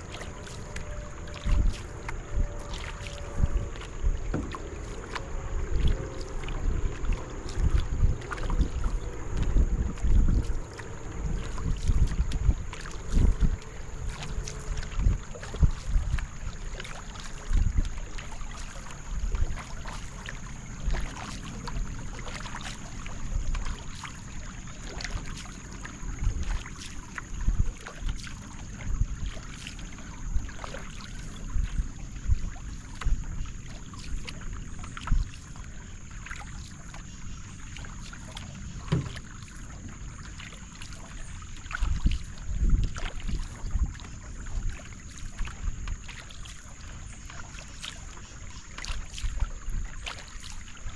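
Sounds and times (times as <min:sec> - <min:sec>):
paddle strokes splashing: 0:00.0 - 0:50.9
water washing along hull: 0:00.0 - 0:50.9.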